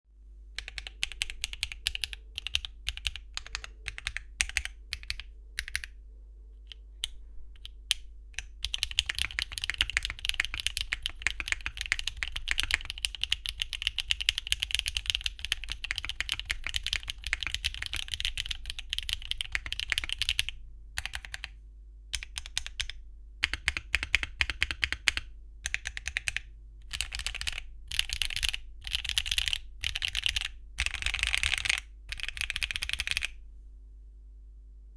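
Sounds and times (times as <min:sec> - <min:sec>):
typing on mechanical keyboard: 0:00.6 - 0:06.0, 0:06.7 - 0:21.6, 0:22.2 - 0:33.4.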